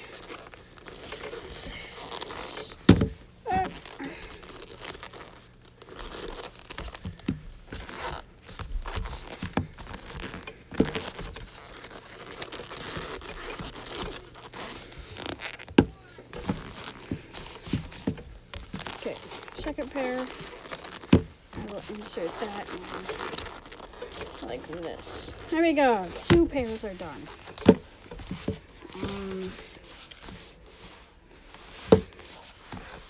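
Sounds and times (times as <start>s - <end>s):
boxing gloves rustling: 0.0s - 33.0s.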